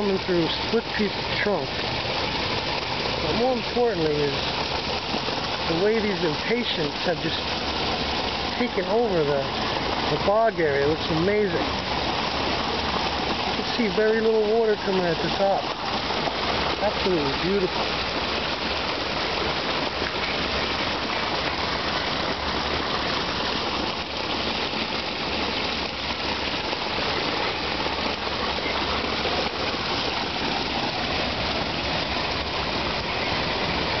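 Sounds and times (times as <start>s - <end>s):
water splashing over rocks: 0.0s - 34.0s.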